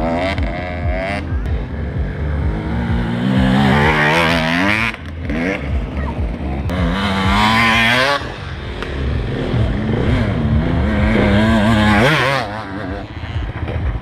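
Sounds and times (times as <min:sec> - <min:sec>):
motorcycle engines revving past: 0:00.0 - 0:14.0.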